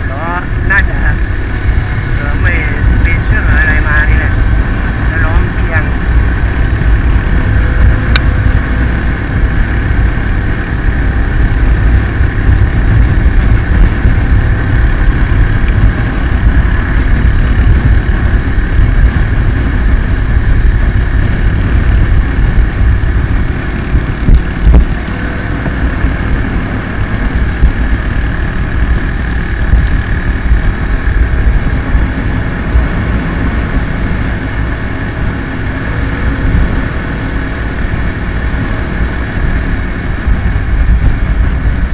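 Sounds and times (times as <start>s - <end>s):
motorcycle engine cruising: 0.0s - 41.9s
wind rumble on microphone: 0.0s - 41.9s.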